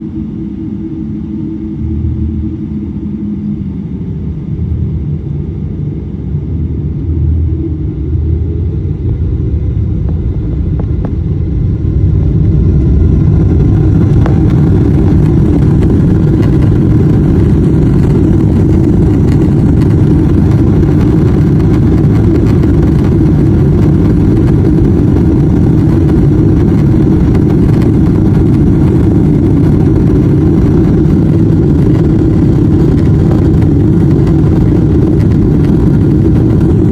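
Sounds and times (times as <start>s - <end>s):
jet engines deep rumble: 0.0s - 36.9s.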